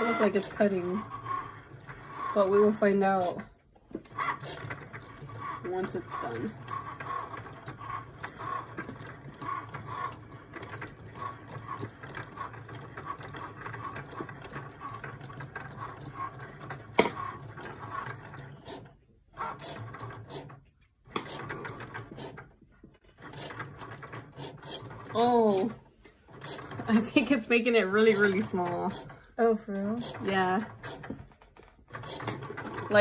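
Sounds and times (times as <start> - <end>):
cutting machine motors whirring: 0.0 - 22.5, 23.1 - 33.0.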